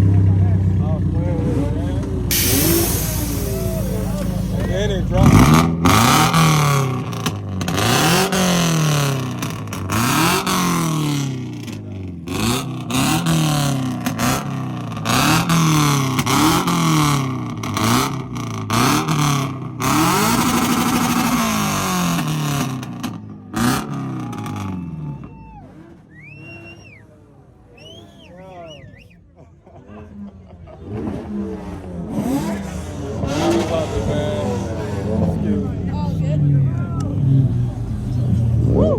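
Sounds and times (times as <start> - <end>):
car engine revving: 0.0 - 28.8, 30.0 - 38.9.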